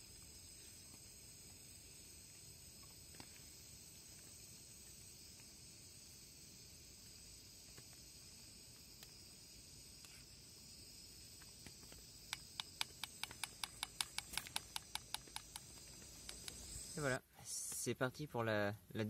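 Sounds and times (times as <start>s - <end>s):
faint high hiss: 0.0s - 19.0s.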